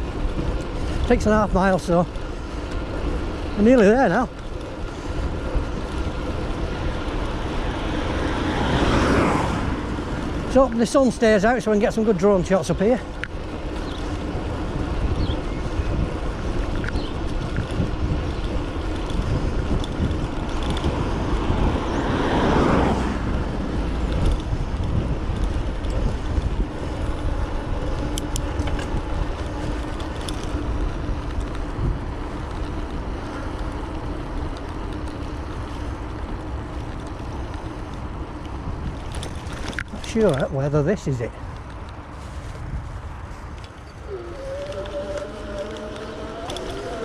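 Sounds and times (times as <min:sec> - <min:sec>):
road noise: 0:00.0 - 0:47.0
vehicle passing: 0:00.0 - 0:47.0
wind rumble: 0:00.0 - 0:47.0.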